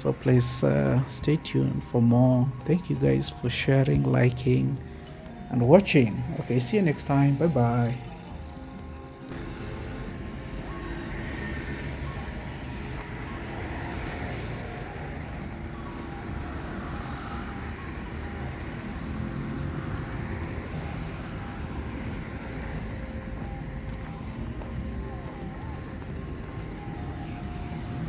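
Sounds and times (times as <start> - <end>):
passing motor traffic: 0.0 - 28.0.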